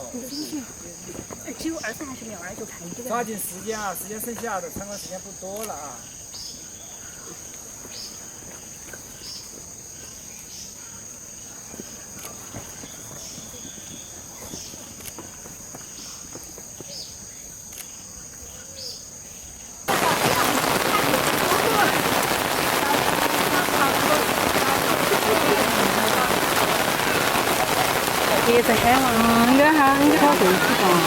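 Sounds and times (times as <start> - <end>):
insect chirps: 0.0 - 31.0.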